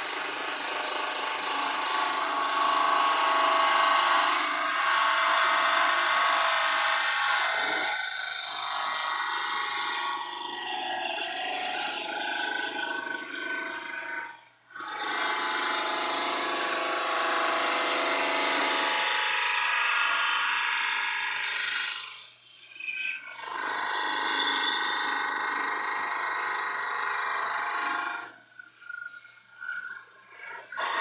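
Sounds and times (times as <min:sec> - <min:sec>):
power tool cutting plastic: 0:00.0 - 0:31.0.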